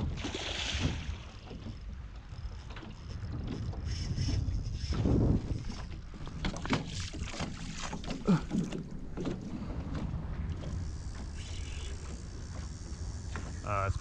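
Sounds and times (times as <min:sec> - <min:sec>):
knocks and clatter on a boat: 0:00.0 - 0:14.0
low steady rumble: 0:00.0 - 0:14.0.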